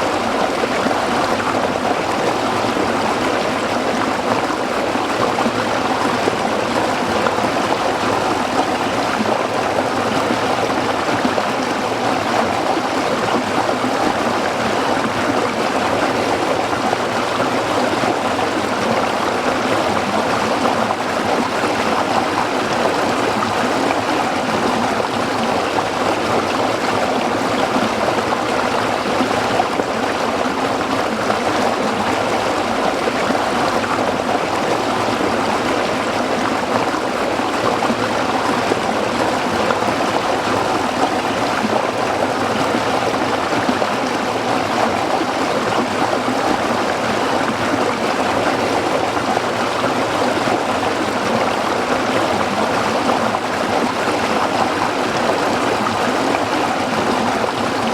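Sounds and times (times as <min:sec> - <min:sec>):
stream babbling over rocks: 0:00.0 - 0:57.9.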